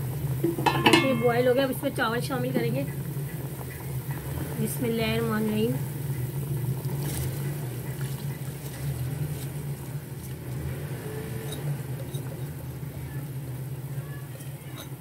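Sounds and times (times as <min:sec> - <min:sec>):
rice poured into boiling liquid: 0:00.0 - 0:15.0
steady low hum: 0:00.0 - 0:15.0.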